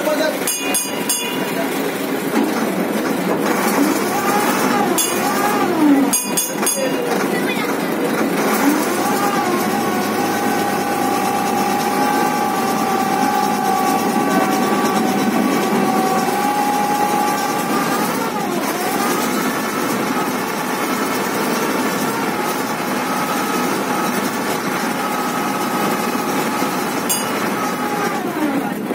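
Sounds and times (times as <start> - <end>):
ferry engine humming: 0.0 - 28.9.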